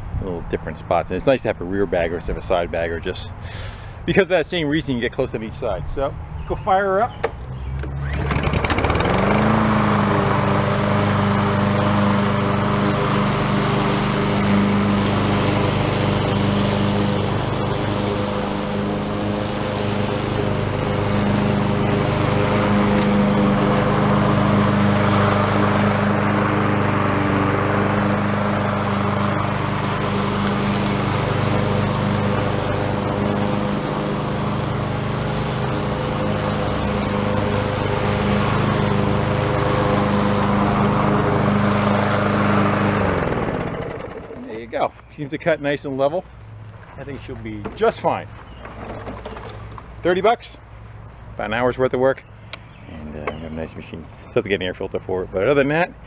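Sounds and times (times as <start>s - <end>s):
lawn mower engine running: 2.4s - 45.0s, 45.6s - 51.6s.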